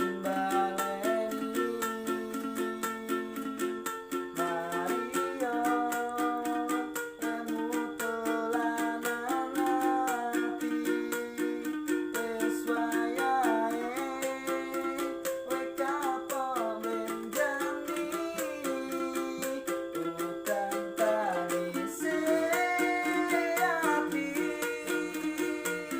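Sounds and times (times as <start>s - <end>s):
person singing: 0.0s - 25.9s
small string instrument strummed: 0.0s - 25.9s.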